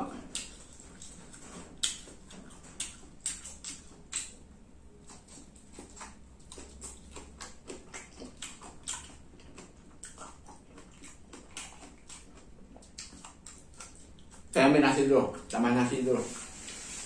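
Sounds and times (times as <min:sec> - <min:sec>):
person chewing with wet clicks: 0:00.0 - 0:15.8
lip smacks: 0:00.3 - 0:04.4, 0:05.0 - 0:14.6.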